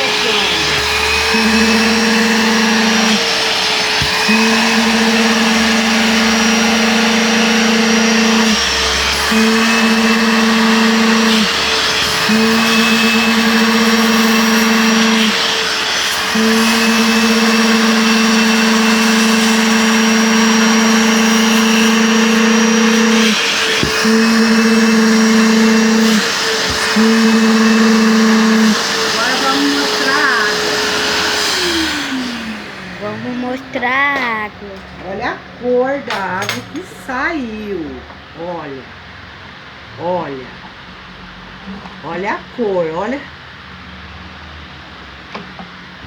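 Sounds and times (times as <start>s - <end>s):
sofa-washing vacuum cleaner running: 0.0s - 46.0s.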